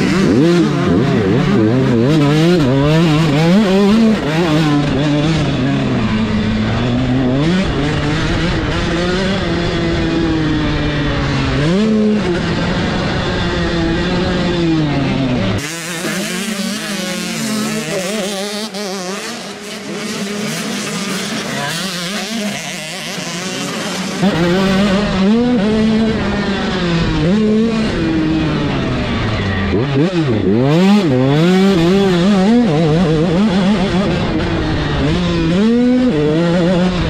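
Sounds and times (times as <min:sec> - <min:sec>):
motocross bikes revving: 0:00.0 - 0:37.0.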